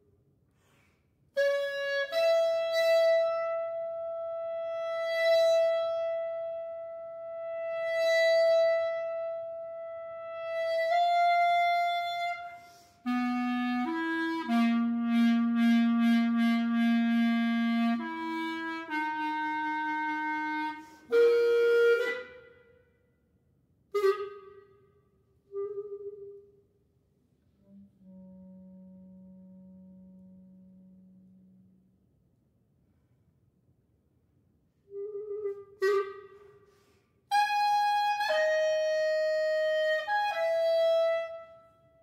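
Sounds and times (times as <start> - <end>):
solo clarinet playing: 1.4 - 22.8, 23.9 - 24.8, 25.5 - 26.7, 27.6 - 32.0, 34.9 - 42.0.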